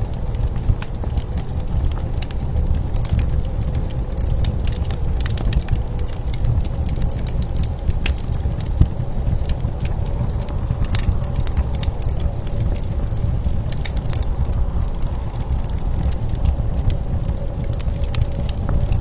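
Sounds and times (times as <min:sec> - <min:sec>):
blizzard wind rumbling: 0:00.0 - 0:19.0
wood fire crackling and popping: 0:00.0 - 0:19.0.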